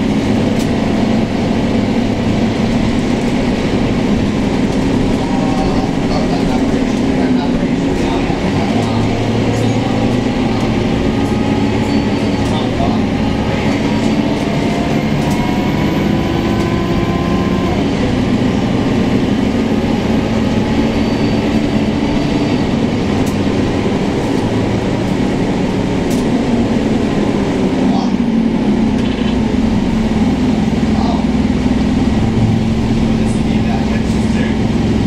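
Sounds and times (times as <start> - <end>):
bus diesel engine drone: 0.0 - 35.0
road and body noise: 0.0 - 35.0.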